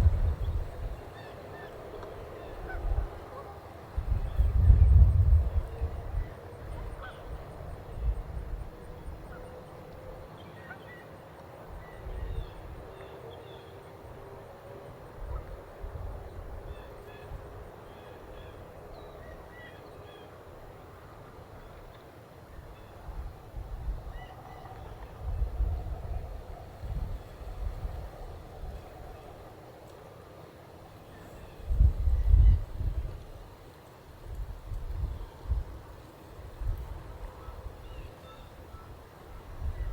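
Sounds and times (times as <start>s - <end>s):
geese honking faintly: 0.0s - 33.7s, 35.1s - 39.9s.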